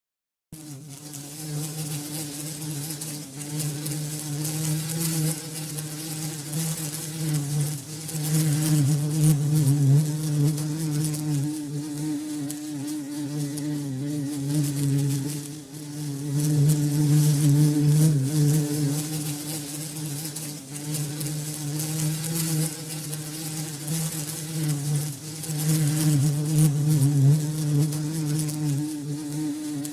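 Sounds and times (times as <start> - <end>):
bumblebee buzzing in flight: 0.6 - 29.9.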